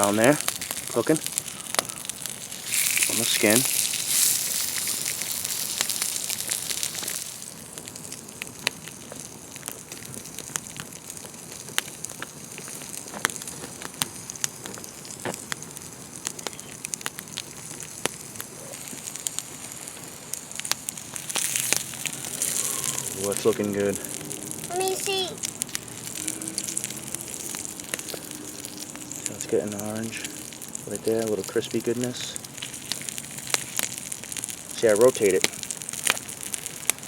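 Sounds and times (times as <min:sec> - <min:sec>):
campfire crackling and popping: 0:00.0 - 0:37.0
duck breast sizzling on hot rock: 0:00.0 - 0:37.0.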